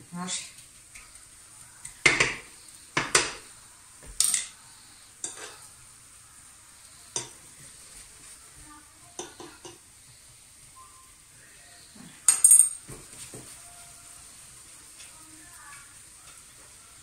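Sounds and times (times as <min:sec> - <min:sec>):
faint sizzling: 0:00.0 - 0:17.0.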